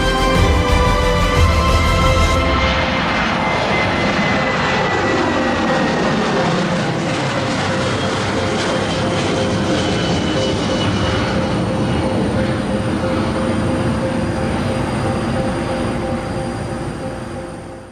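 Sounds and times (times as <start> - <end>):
jet engines at high thrust: 0.0 - 17.9.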